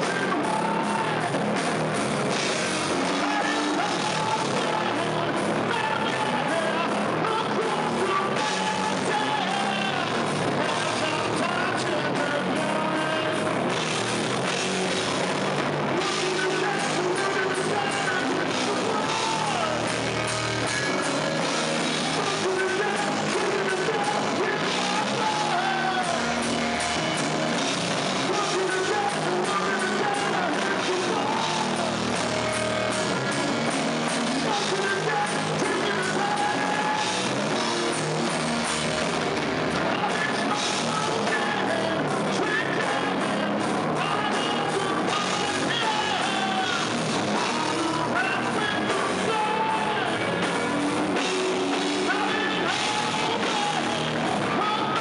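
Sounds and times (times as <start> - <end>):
live heavy rock band: 0.0 - 55.0
man singing: 0.0 - 55.0.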